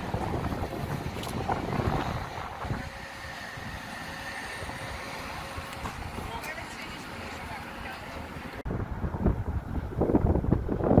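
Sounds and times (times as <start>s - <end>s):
street traffic: 0.0s - 10.8s
wind buffeting microphone: 0.0s - 11.0s.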